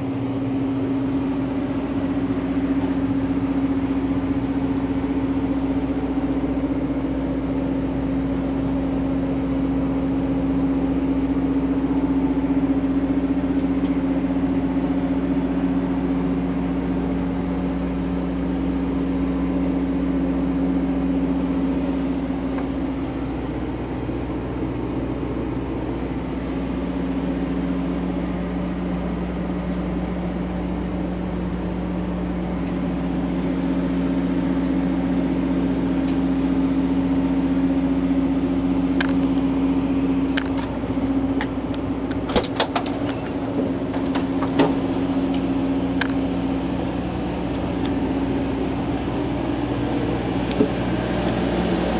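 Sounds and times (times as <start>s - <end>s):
constant pitched whine: 0.0s - 51.9s
vehicle machinery humming: 0.0s - 51.9s.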